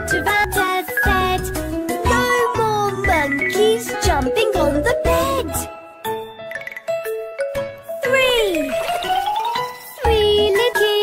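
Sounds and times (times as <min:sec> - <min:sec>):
bright children's tune: 0:00.0 - 0:11.0.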